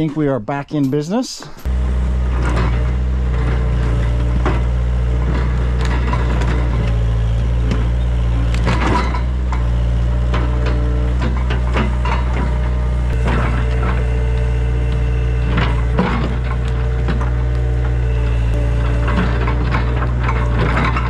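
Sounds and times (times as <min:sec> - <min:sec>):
excavator diesel engine running: 0:01.6 - 0:21.0
roots and soil cracking: 0:02.3 - 0:21.0.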